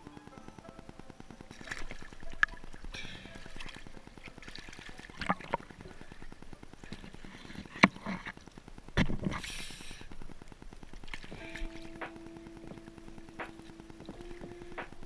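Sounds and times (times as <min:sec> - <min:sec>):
sharp underwater clicks and knocks: 0:01.2 - 0:15.0.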